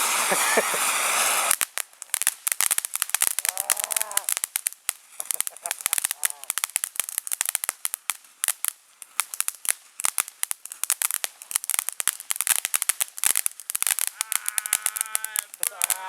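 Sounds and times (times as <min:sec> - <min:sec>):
firecrackers popping: 0:00.0 - 0:16.0.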